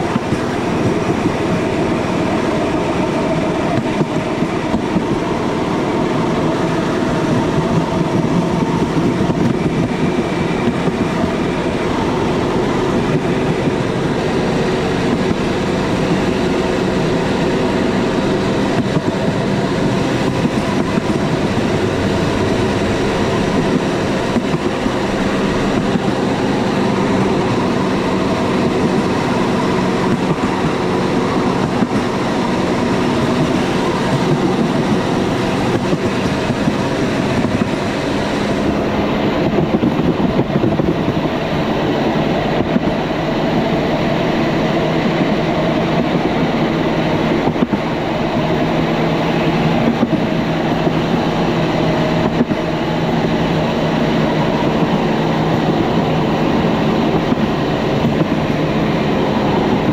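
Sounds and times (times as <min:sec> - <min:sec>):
motorbike engine drone: 0:00.0 - 0:59.9
wheels rumbling on rails: 0:00.0 - 0:59.9.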